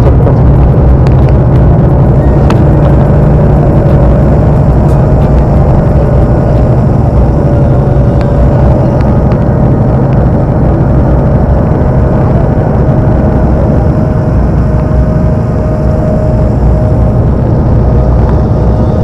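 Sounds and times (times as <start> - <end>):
boat engine rumbling: 0.0 - 19.0
engine whine: 0.0 - 19.0.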